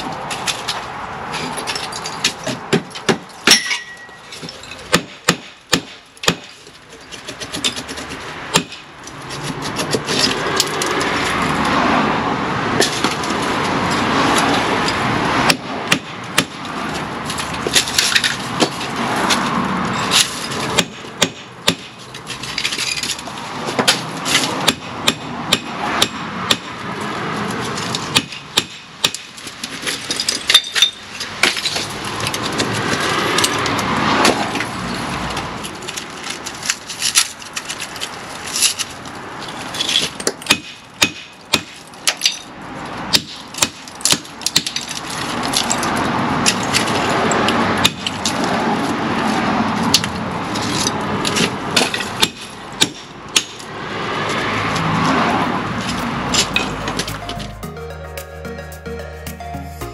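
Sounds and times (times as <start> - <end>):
continuous rough noise: 0.0 - 57.5.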